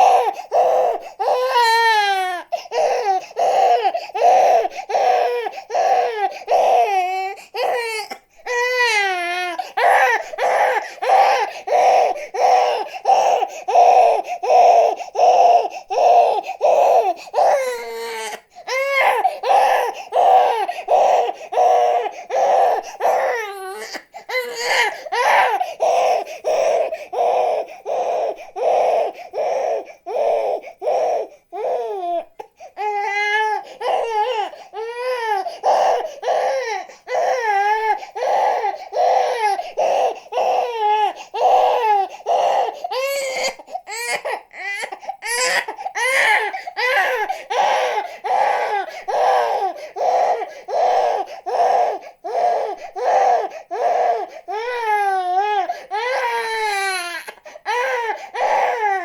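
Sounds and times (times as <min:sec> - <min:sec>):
baby crying: 0:00.0 - 0:59.0.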